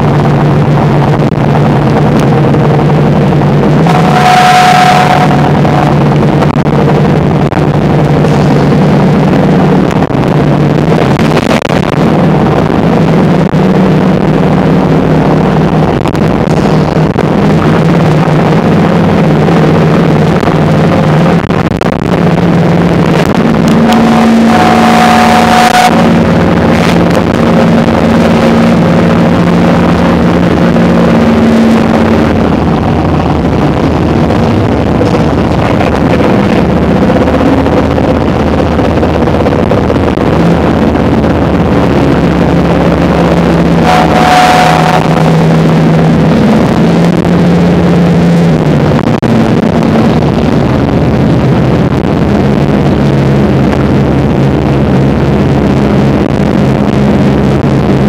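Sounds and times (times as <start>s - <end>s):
boat engines humming: 0.0s - 58.0s
rushing water: 0.0s - 58.0s
wind on microphone: 0.0s - 58.0s.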